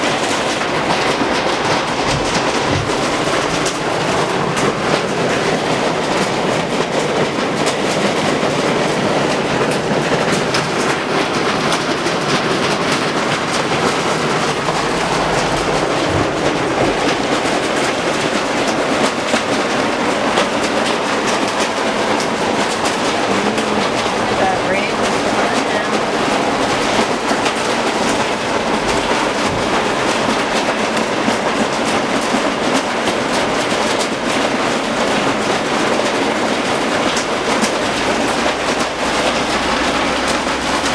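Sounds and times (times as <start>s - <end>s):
heavy rain pouring: 0.0s - 40.9s
sharp ticks of rain impacts: 0.0s - 40.9s.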